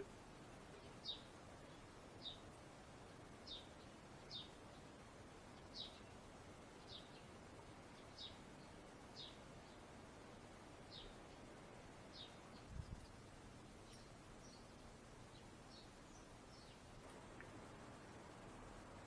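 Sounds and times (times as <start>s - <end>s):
bird chirping: 0.0s - 17.5s
background hiss: 0.0s - 19.0s.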